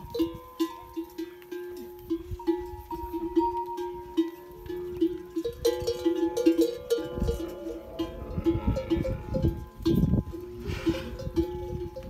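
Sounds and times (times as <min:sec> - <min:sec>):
camel bells clanking: 0:00.0 - 0:12.0.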